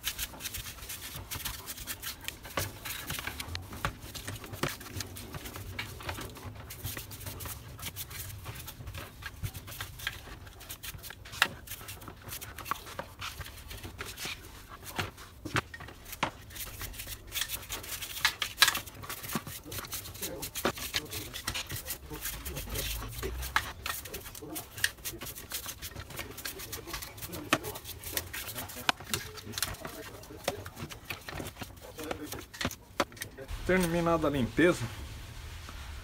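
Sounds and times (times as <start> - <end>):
stiff brush scrubbing: 0.0 - 36.0.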